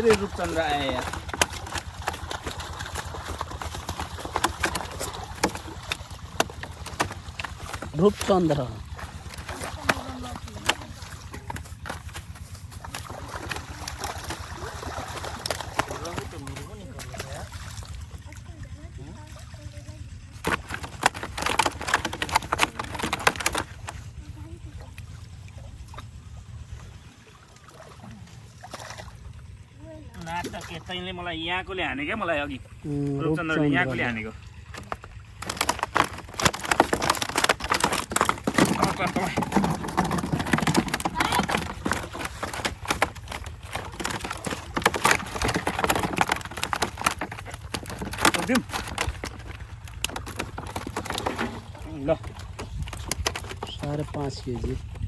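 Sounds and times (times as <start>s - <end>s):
fish flapping: 0.0s - 31.0s, 32.1s - 55.0s
splashing and slapping in water: 0.0s - 55.0s.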